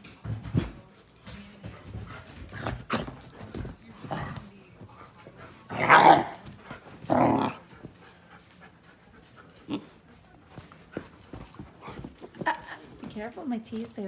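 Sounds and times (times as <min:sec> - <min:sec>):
dog panting: 0:00.6 - 0:13.9.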